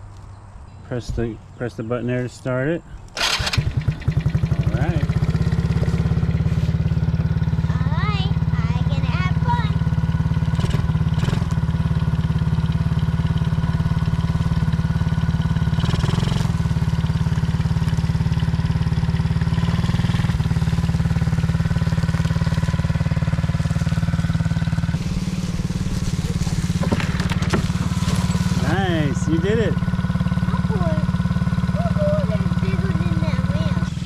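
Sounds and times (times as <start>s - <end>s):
small atv engine running: 3.1s - 34.0s.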